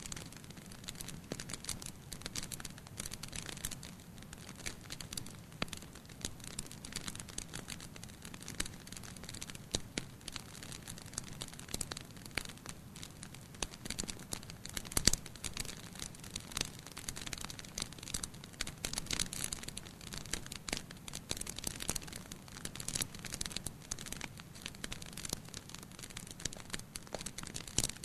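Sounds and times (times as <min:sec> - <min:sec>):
faint low hiss: 0:00.0 - 0:28.0
wood fire crackling: 0:00.0 - 0:28.0.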